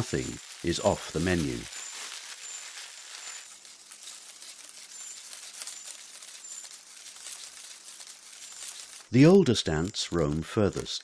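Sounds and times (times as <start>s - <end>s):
ants crackling rustle: 0.0s - 11.0s.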